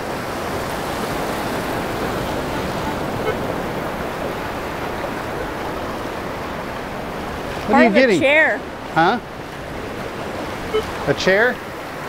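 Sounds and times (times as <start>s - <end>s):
ocean surf washing on beach: 0.0s - 12.0s.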